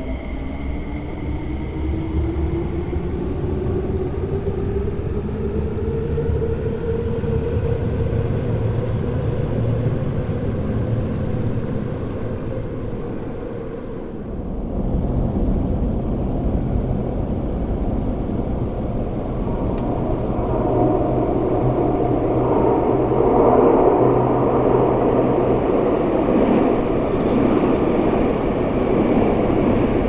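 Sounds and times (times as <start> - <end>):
steady whine: 0.0 - 30.0
train approaching through tunnel: 0.0 - 30.0
train rumbling: 0.0 - 30.0.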